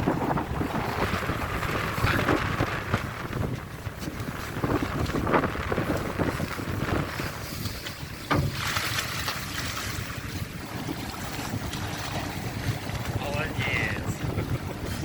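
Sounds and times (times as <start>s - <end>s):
low rumble: 0.0s - 15.0s
water washing: 0.0s - 15.0s
wind buffeting microphone: 0.0s - 15.0s.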